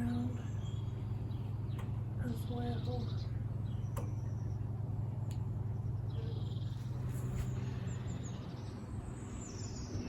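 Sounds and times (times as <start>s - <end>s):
small birds chirping: 0.0s - 10.0s
steady low rumble: 0.0s - 10.0s.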